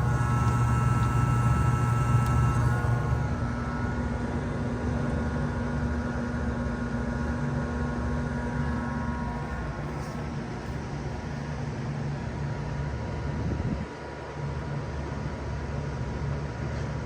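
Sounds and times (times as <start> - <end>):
fan air noise: 0.0 - 17.0
heat pump low hum: 0.0 - 17.0.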